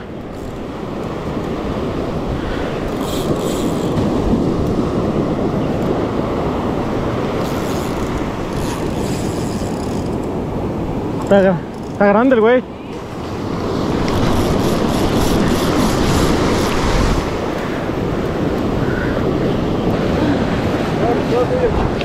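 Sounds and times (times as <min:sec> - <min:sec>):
surf washing on shore: 0:00.0 - 0:22.0
wind buffeting microphone: 0:00.0 - 0:22.0.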